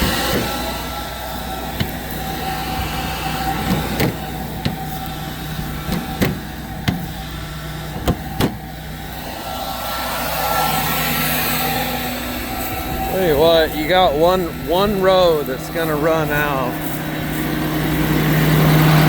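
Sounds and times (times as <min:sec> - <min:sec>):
constant fan-like whine: 0:00.0 - 0:19.0
tractor and planter humming: 0:00.0 - 0:19.0.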